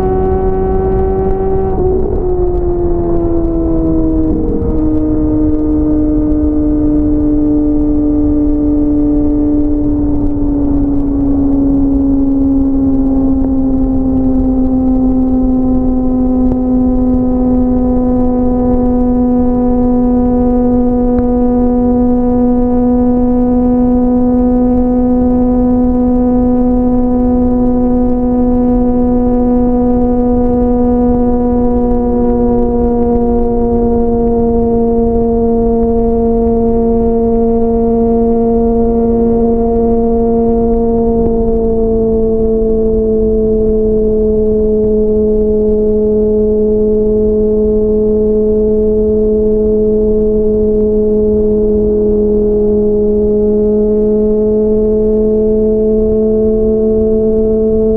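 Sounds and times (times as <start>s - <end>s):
low wind rumble: 0.0s - 57.9s
motorcycle engine droning: 0.0s - 57.9s.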